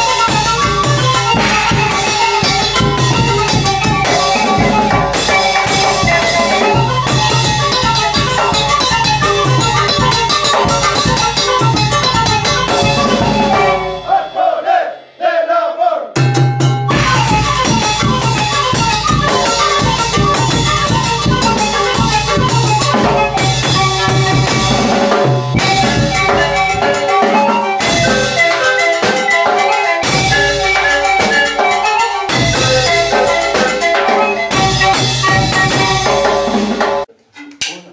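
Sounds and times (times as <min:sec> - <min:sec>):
bass drum and percussion beats: 0:00.0 - 0:14.5, 0:16.2 - 0:37.8
panpipes melody: 0:00.0 - 0:14.8, 0:16.8 - 0:36.8.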